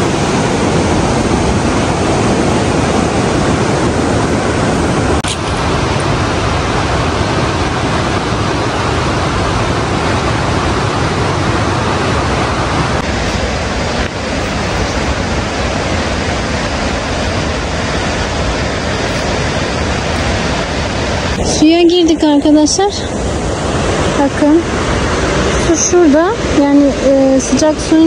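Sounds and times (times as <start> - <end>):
fast mountain stream rushing: 0.0 - 28.0.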